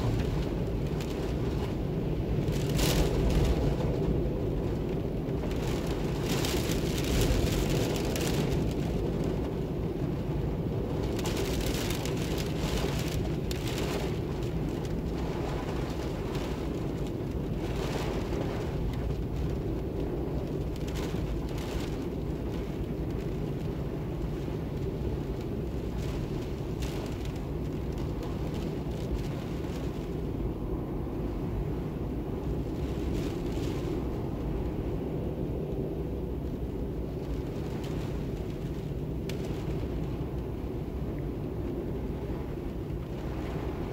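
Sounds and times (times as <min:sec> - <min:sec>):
strong wind gusting: 0:00.0 - 0:43.9.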